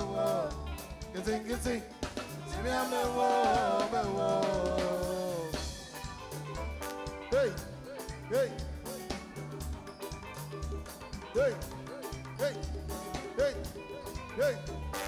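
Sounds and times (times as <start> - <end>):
bass line: 0.0 - 15.0
drum kit groove: 0.0 - 15.0.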